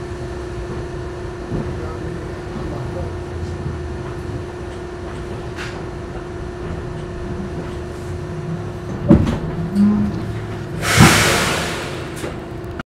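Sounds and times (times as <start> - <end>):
subway car equipment humming: 0.0 - 12.8.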